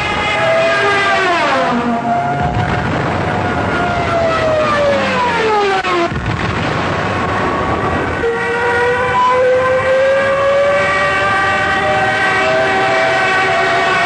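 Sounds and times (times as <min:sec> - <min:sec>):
dive bomber siren whine: 0:00.0 - 0:14.0
noisy rush: 0:01.4 - 0:14.0.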